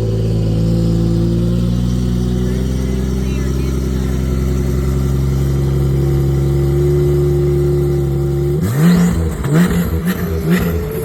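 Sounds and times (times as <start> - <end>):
car engine idling: 0.0 - 11.0
car engine revving blips: 0.0 - 11.0.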